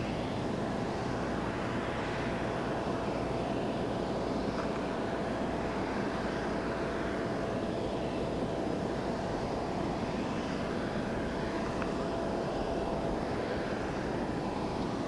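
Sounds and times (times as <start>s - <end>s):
jet engine rumble: 0.0s - 15.0s
jet engine whine: 0.0s - 15.0s.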